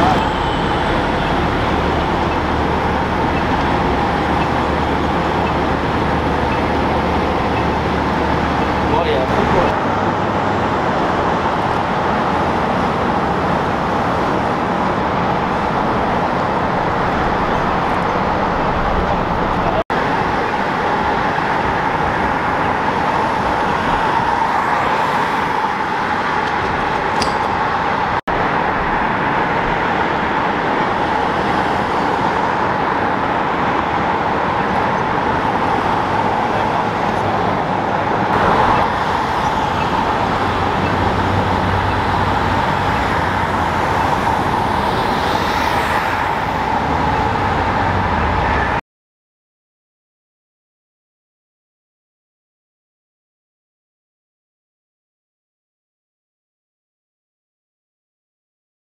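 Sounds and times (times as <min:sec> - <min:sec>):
street traffic: 0:00.0 - 0:48.8.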